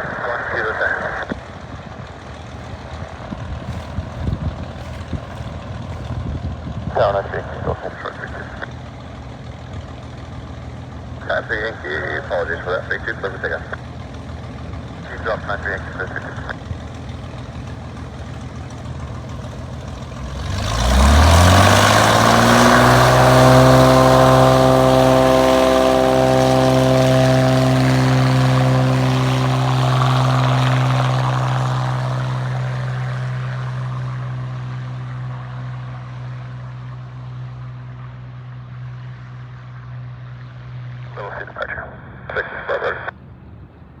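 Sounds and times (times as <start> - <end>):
propeller plane engine: 0.0 - 44.0.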